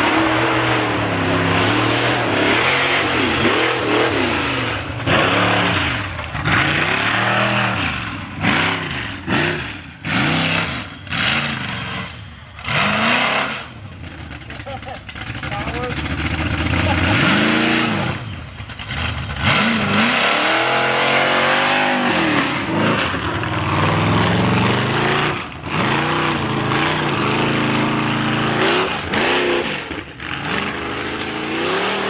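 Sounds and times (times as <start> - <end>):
engine revving hard: 0.0 - 13.8, 15.2 - 32.0.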